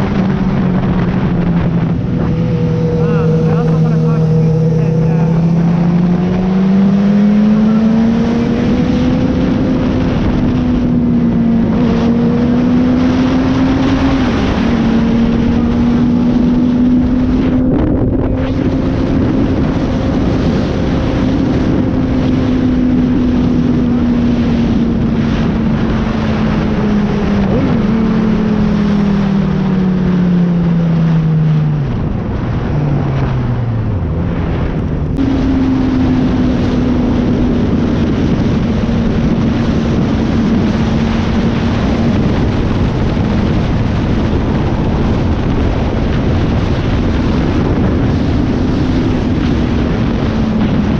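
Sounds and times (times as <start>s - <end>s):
motorcycle engine revving: 0.0s - 50.9s
wind rush: 0.0s - 50.9s.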